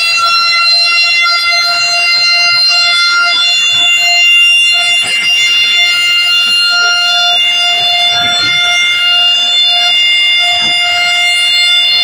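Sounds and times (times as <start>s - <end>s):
shrill siren-like tone from speakers: 0.0s - 12.0s.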